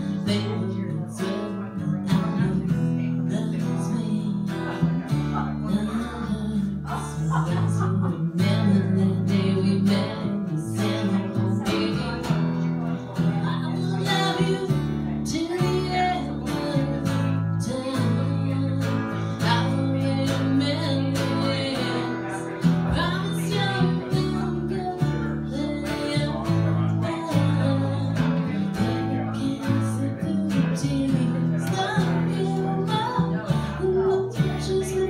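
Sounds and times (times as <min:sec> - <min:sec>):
acoustic guitar strumming: 0:00.0 - 0:35.0
upright bass low notes: 0:00.0 - 0:35.0.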